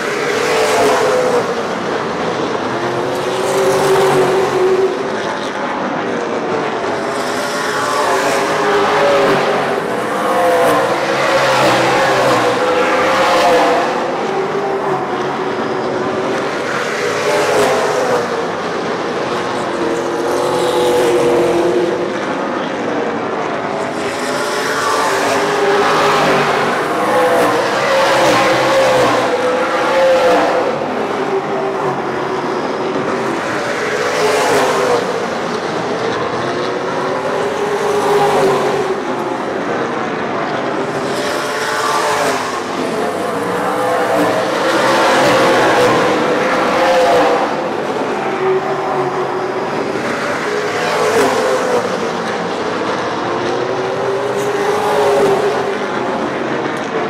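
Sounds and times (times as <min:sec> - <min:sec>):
race car engines lapping: 0:00.0 - 0:57.0.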